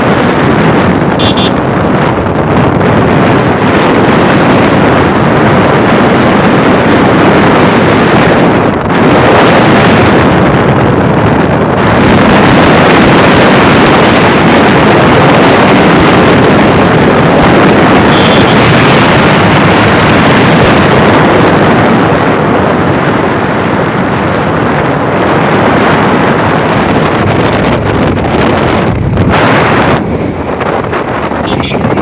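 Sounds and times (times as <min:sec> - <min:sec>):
motorcycle running: 0:00.0 - 0:32.0
wind rushing over microphone: 0:00.0 - 0:32.0.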